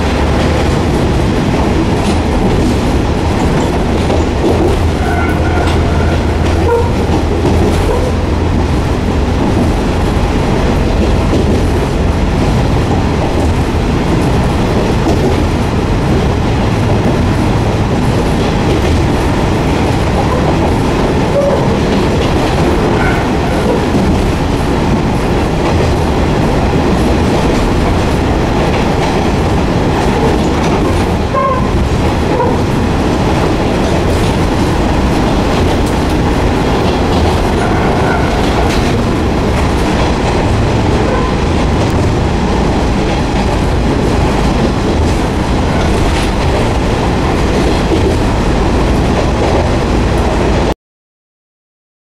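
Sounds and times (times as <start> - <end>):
railcar engine running: 0.0 - 50.7
train wheels on rails: 0.0 - 50.7.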